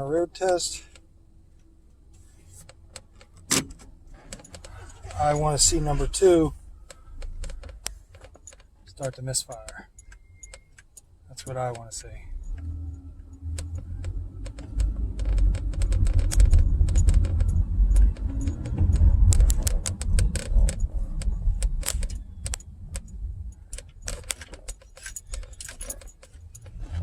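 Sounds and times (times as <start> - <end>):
road and engine rumble: 0.0 - 27.0
metallic clicks and jingles: 4.2 - 27.0.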